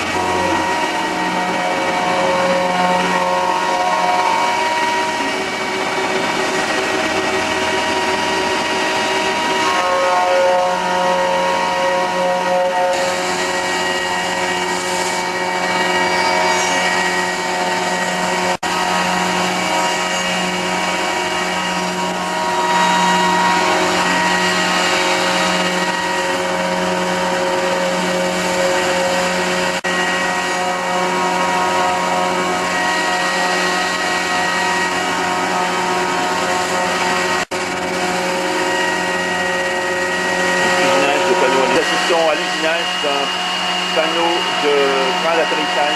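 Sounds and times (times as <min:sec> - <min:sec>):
milling machine whine: 0:00.0 - 0:45.9.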